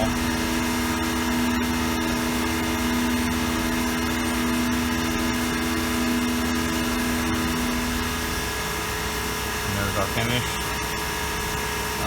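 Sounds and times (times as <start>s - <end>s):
milling machine hum: 0.0s - 12.0s.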